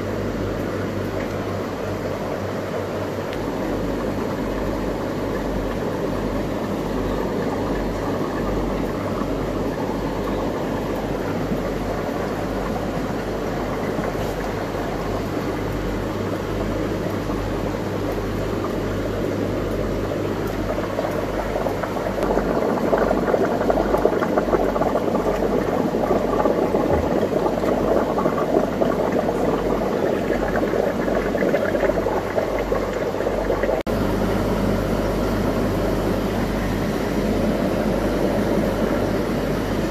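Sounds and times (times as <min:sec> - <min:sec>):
bubbling aquarium water: 0:00.0 - 0:39.9
low mains hum: 0:00.0 - 0:39.9.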